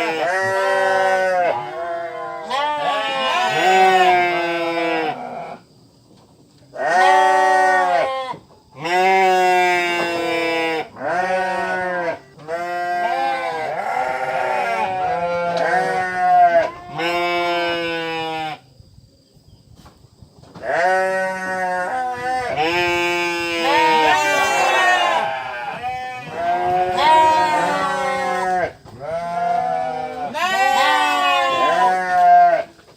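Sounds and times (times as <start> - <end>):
goats or sheep bleating: 0.0 - 5.6, 6.8 - 18.6, 20.6 - 32.8.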